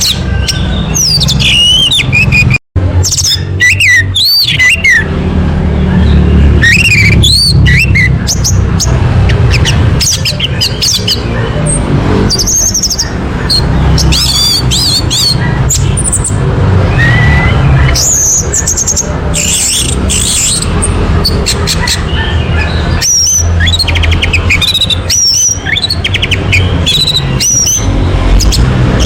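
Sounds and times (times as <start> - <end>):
thrush singing whistled phrases: 0.0 - 5.1, 6.0 - 11.2, 12.3 - 22.0, 22.9 - 28.6.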